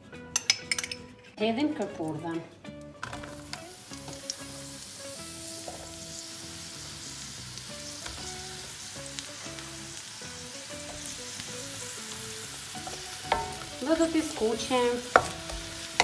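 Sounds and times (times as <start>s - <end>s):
soft background music: 0.0s - 16.0s
mushrooms sizzling in a skillet: 3.0s - 16.0s.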